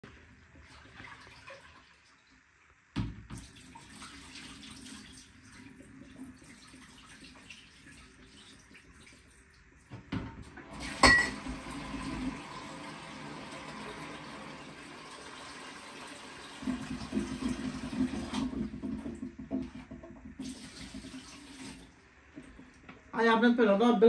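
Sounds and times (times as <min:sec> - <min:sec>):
water running: 0:00.0 - 0:23.0.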